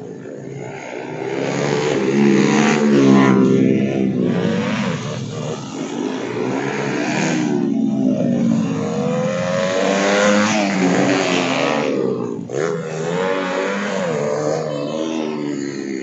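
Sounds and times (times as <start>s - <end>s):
motorcycles revving: 0.0s - 16.0s.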